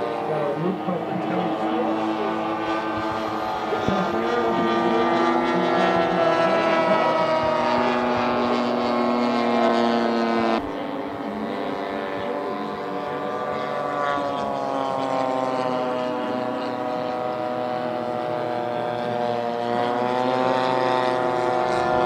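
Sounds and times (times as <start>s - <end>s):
model aircraft engines droning: 0.0s - 22.0s.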